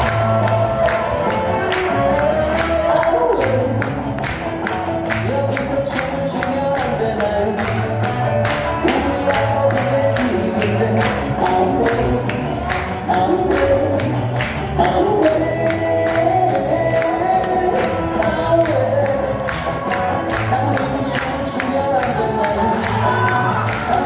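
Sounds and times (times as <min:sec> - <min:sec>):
bass: 0:00.0 - 0:24.0
group of voices singing: 0:00.0 - 0:24.0.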